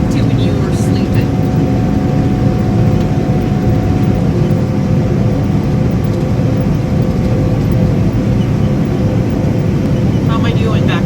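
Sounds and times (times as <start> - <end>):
combine harvester droning: 0.0 - 11.0
faint steady hum: 0.0 - 11.0.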